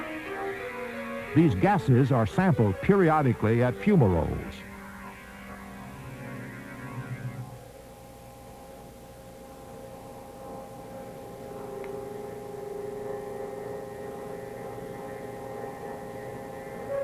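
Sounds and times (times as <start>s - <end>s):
synthesizer drone: 0.0s - 17.0s.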